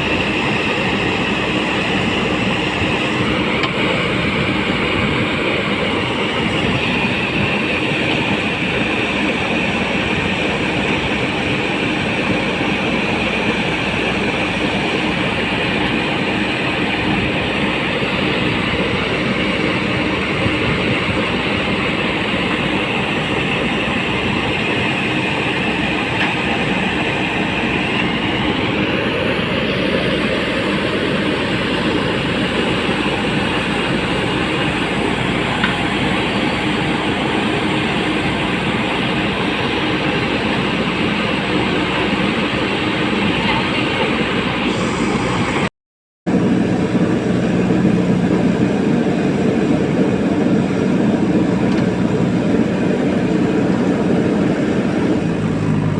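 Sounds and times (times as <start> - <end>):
diesel engine running: 0.0 - 45.7, 46.3 - 55.9.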